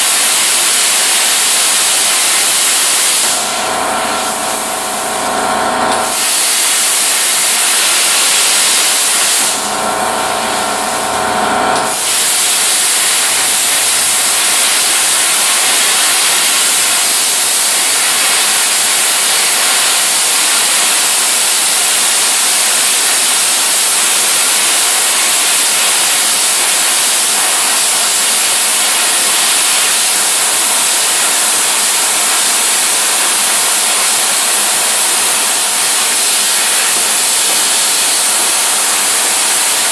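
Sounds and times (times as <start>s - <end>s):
loud steady hiss: 0.0s - 5.1s, 5.9s - 11.2s, 11.8s - 39.9s.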